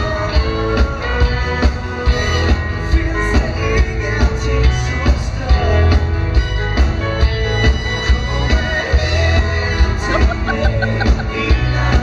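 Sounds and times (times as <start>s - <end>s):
bass guitar: 0.0s - 12.0s
guitars: 0.0s - 12.0s
keyboard: 0.0s - 12.0s.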